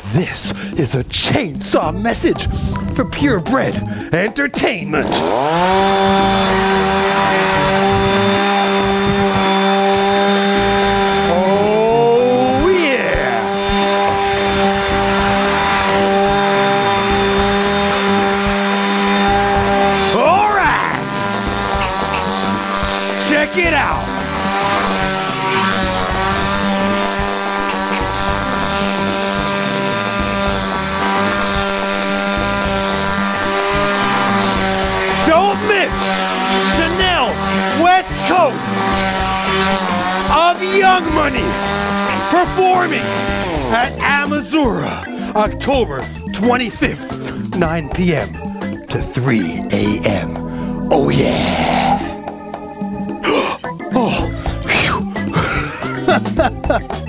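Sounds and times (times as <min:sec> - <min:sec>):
chainsaw engine at high revs: 0:00.0 - 0:57.0.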